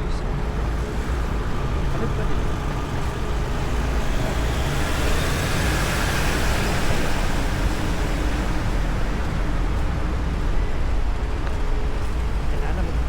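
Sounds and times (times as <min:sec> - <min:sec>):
road traffic rumble: 0:00.0 - 0:13.0
vehicle passing: 0:00.3 - 0:13.0.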